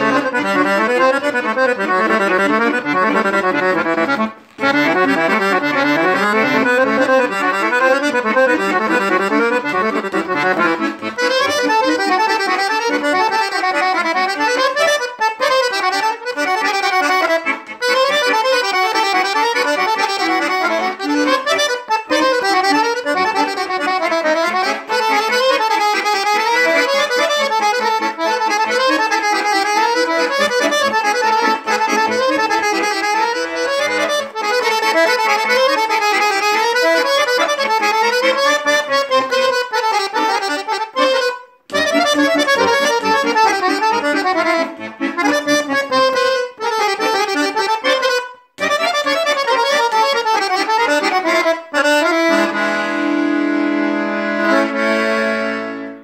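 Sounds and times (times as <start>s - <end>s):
accordion playing folk tune: 0.0s - 56.0s.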